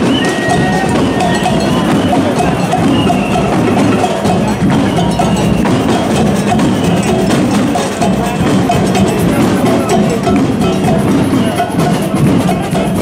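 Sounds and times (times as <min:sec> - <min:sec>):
large crowd noise: 0:00.0 - 0:13.0
percussion band drumming: 0:00.0 - 0:13.0.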